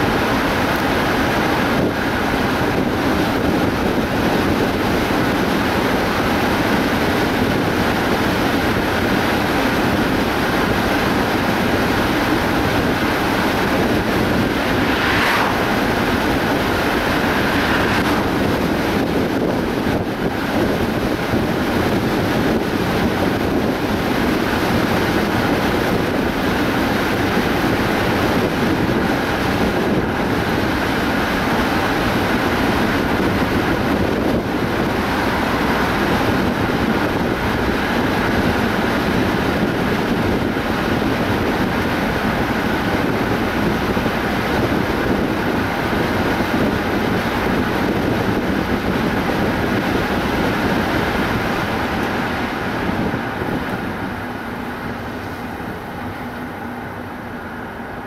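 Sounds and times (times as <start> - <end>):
car engine: 0.0 - 58.0
wind noise: 0.0 - 58.0.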